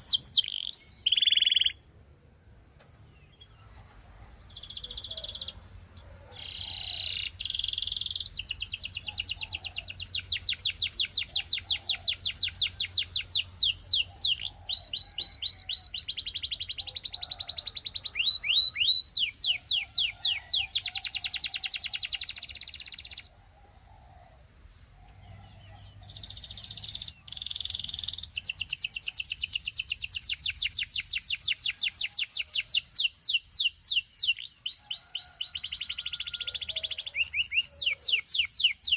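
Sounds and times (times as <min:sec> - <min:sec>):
canary singing trills: 0:00.0 - 0:01.9, 0:03.0 - 0:23.4, 0:25.0 - 0:38.9.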